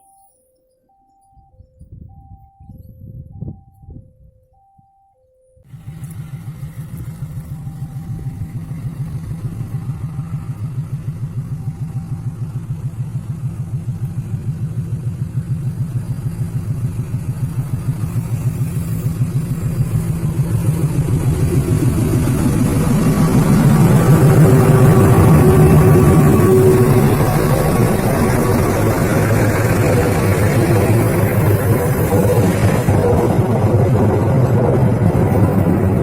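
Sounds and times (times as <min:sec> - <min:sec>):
diesel locomotive engine throbbing: 0:05.7 - 0:36.0.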